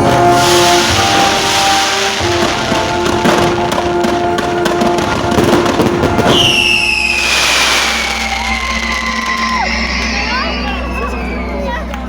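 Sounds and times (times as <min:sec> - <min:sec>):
fireworks crackling and popping: 0:00.0 - 0:11.2
whistling firework: 0:00.0 - 0:11.8.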